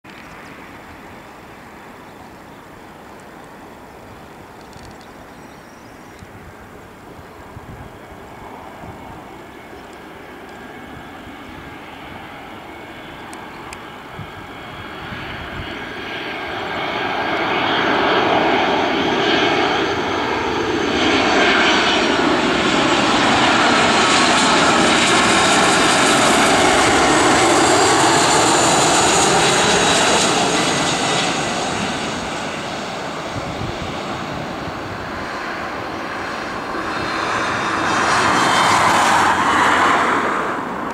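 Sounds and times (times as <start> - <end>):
aircraft touching down: 0.1 - 40.9
jet airliner passing overhead: 0.1 - 40.9.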